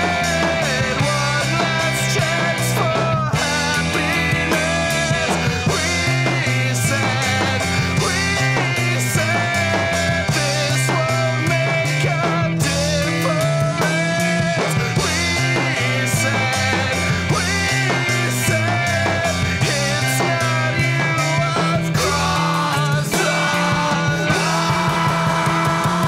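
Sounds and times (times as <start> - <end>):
bass guitar: 0.0 - 26.0
electric guitars: 0.0 - 26.0
steady drum beat: 0.0 - 26.0.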